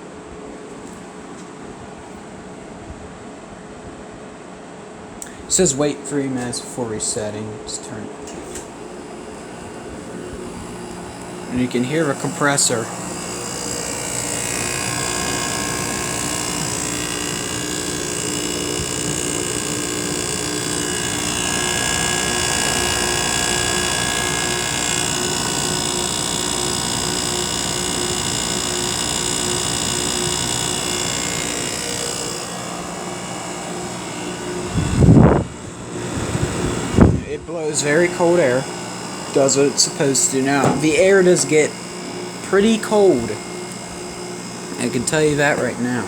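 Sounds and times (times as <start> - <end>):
air conditioner humming: 0.0 - 46.0.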